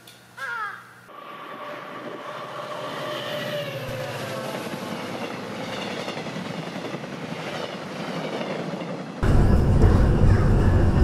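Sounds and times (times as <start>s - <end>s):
train wheels rushing on rail: 1.1s - 11.0s.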